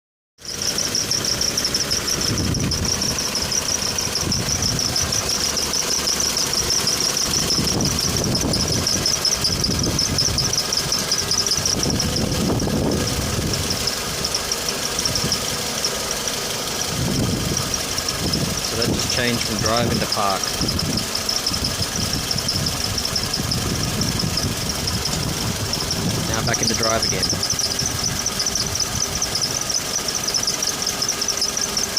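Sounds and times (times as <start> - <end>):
car engine running: 0.4 - 31.9
high-pitched pulsing squeak: 0.4 - 31.9.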